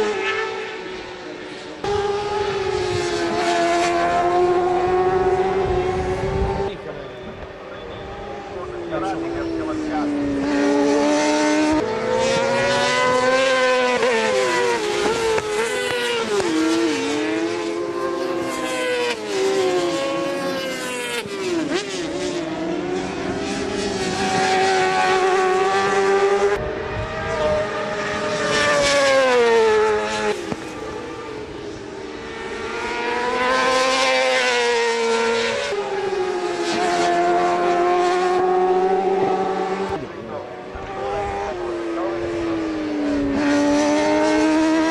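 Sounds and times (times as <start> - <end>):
racing motorcycle engines revving: 0.0 - 44.9.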